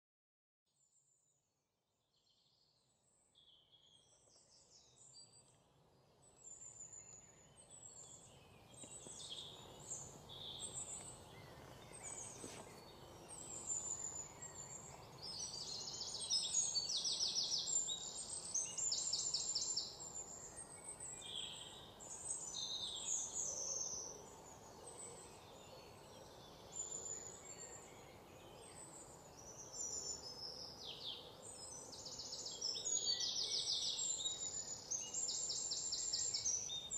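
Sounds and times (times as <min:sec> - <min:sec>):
low steady background noise: 0:00.8 - 0:36.9
songbirds chirping and trilling: 0:02.2 - 0:36.9.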